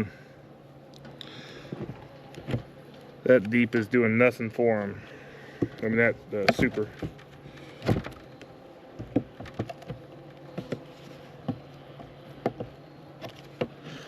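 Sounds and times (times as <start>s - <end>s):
honeybees buzzing: 0.0s - 14.0s
clicks and knocks from hive: 0.8s - 4.4s, 5.0s - 14.0s.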